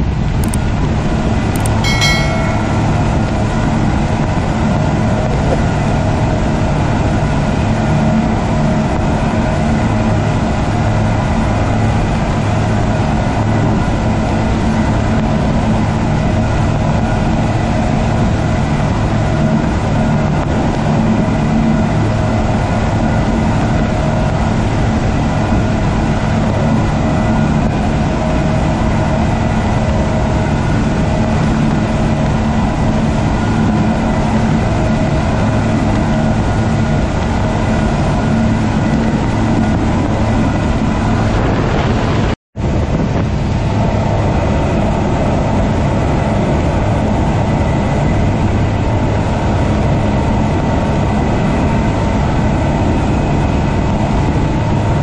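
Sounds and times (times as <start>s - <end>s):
outboard motors droning: 0.0s - 55.0s
wind: 0.0s - 55.0s.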